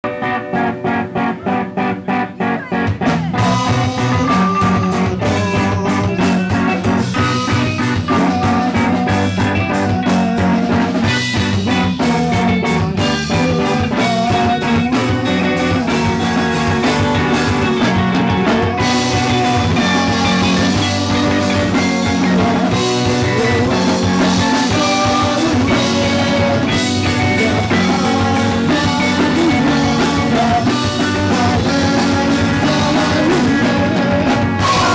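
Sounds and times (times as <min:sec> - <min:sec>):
live rock band playing: 0:00.0 - 0:34.9
guitar picking quick figure: 0:00.1 - 0:34.9.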